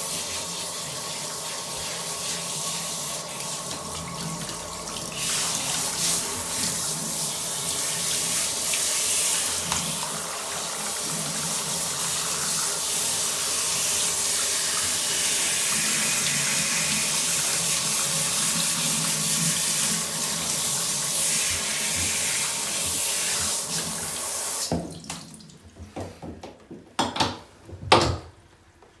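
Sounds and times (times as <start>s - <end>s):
water running from a tap: 0.0s - 25.7s.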